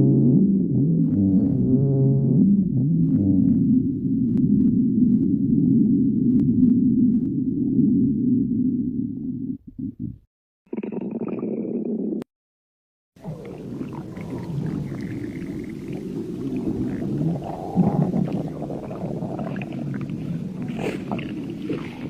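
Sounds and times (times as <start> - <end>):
stomach growling: 0.0 - 10.1, 10.7 - 12.3, 13.2 - 22.0.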